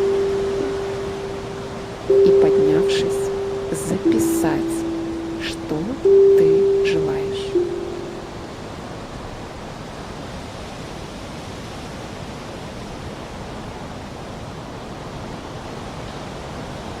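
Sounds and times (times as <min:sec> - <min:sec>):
steady wind hiss: 0:00.0 - 0:17.0.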